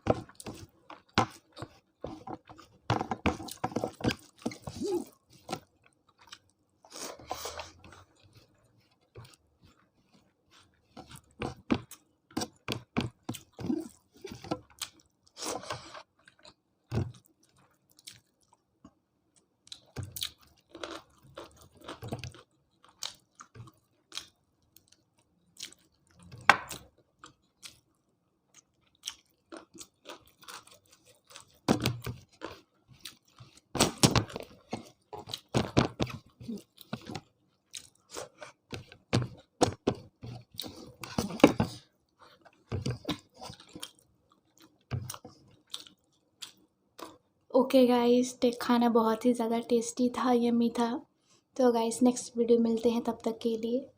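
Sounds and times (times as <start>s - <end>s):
person chewing and crunching food: 0.0s - 47.4s.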